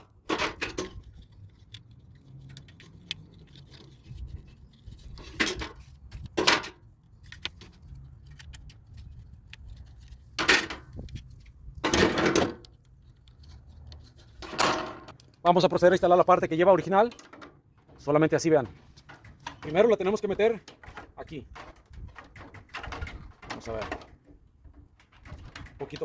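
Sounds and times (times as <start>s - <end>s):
plastic parts clattering: 0.0s - 15.4s, 16.8s - 26.0s.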